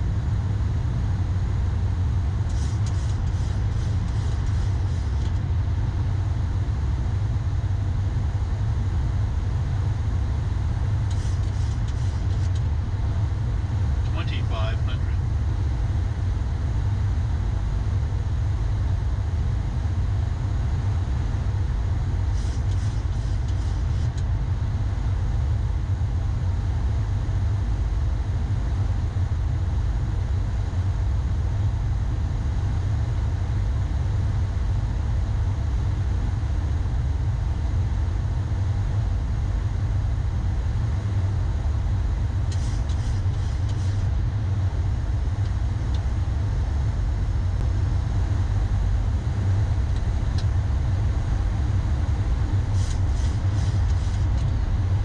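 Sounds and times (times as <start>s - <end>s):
low rumble of aircraft engine: 0.0s - 55.0s.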